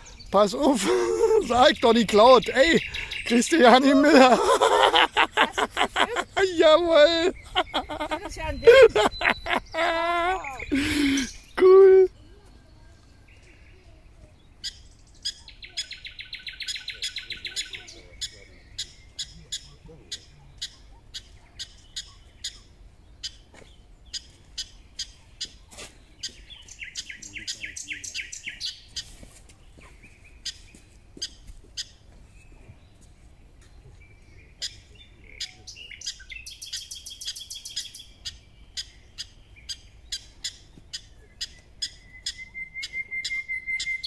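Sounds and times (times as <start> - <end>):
prairie dog chirping: 1.6 - 11.5, 14.6 - 23.5, 24.1 - 29.1, 29.8 - 32.0, 34.6 - 44.0.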